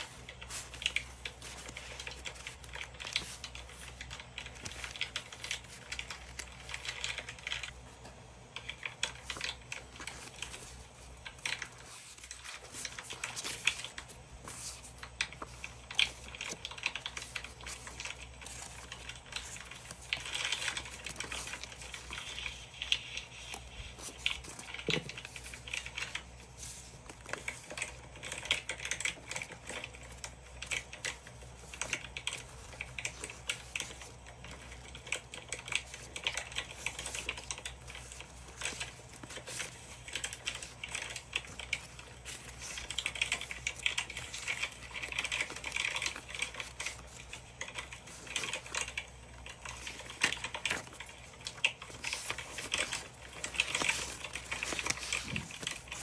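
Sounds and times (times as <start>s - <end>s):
paper sheets rustling: 0.0s - 56.0s.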